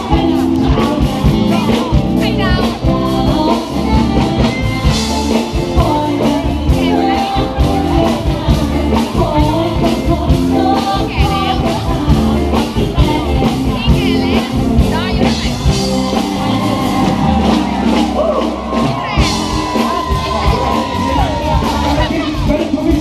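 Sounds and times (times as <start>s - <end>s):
live band playing: 0.0s - 23.0s
person singing: 0.0s - 23.0s
steady drum beat: 0.0s - 23.0s.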